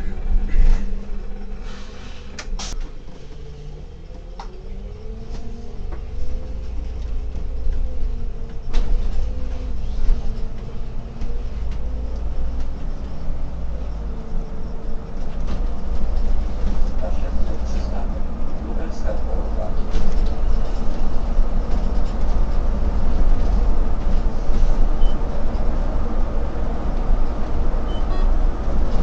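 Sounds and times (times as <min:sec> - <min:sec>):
bus drivetrain hum: 0:00.0 - 0:29.0
low rumble: 0:00.0 - 0:29.0.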